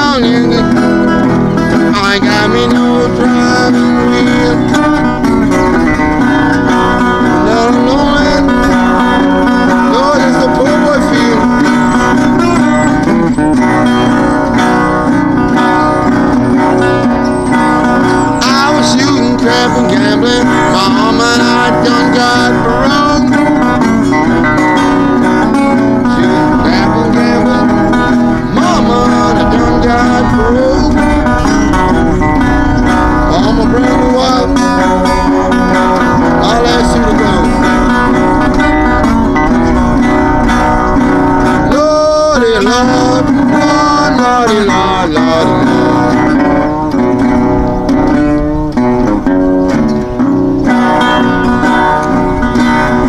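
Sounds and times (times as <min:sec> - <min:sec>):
resonator guitar playing blues: 0:00.0 - 0:53.0.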